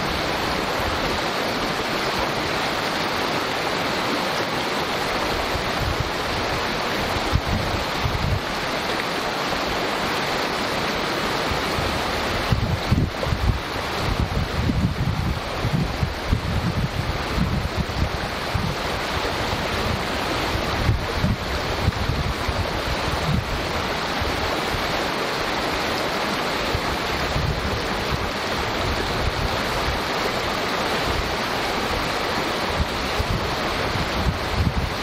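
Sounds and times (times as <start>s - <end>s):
creek rushing and babbling: 0.0s - 35.0s.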